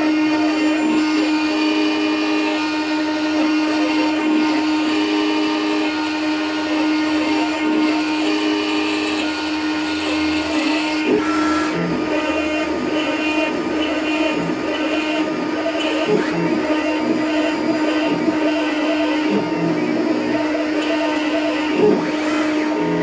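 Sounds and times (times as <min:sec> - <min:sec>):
cutter rasping plastic: 0:00.0 - 0:23.0
router spindle motor: 0:00.0 - 0:23.0.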